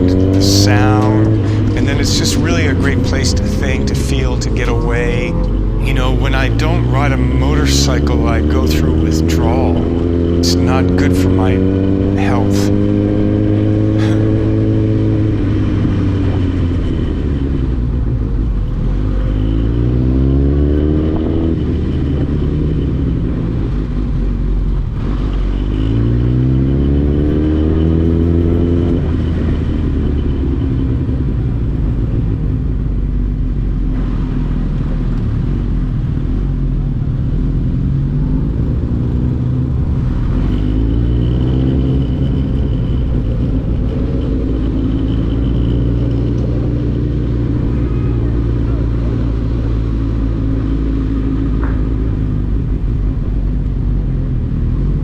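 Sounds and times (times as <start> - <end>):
motorbike engine accelerating: 0.0 - 55.0.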